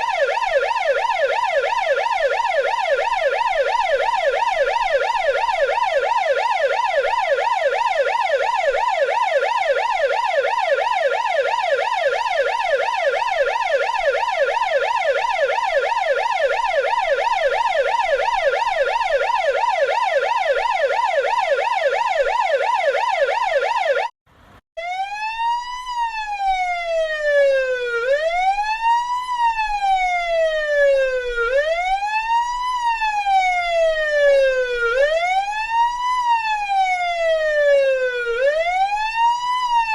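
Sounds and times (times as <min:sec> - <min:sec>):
police siren yelp: 0:00.0 - 0:24.1, 0:24.8 - 0:39.9
siren slow wail: 0:00.0 - 0:24.1, 0:24.8 - 0:39.9.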